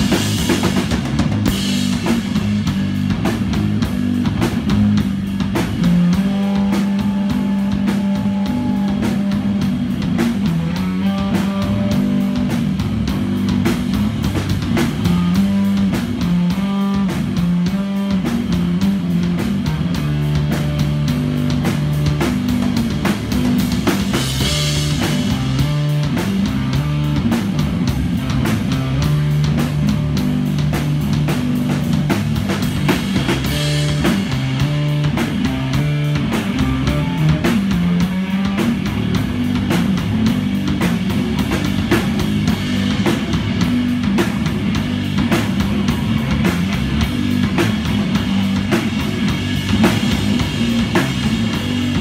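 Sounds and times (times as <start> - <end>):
drum kit beat: 0.0 - 52.0
electric bass low notes: 0.0 - 52.0.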